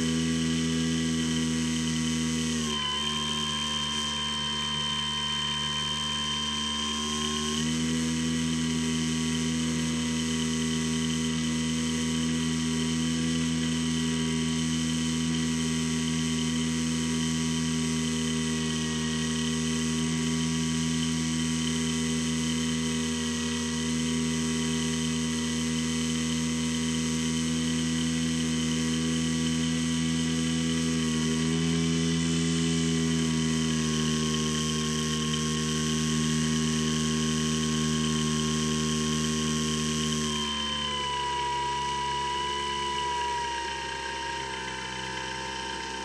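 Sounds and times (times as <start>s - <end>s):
electric motor and propeller whine: 0.0s - 46.0s.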